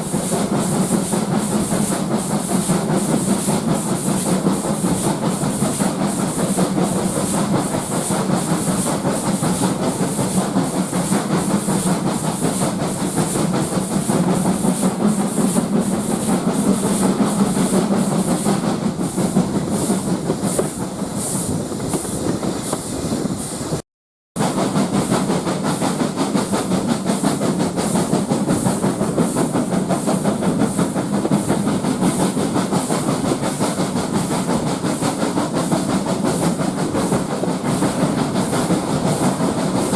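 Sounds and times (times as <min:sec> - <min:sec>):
steam train rumbling: 0:00.0 - 0:23.8, 0:24.4 - 0:39.9.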